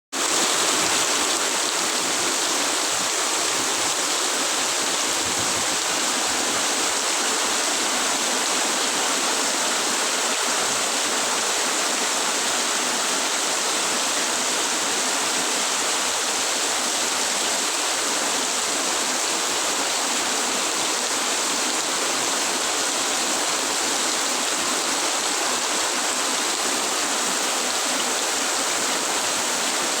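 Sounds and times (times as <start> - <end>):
heavy rain falling: 0.2 - 30.0.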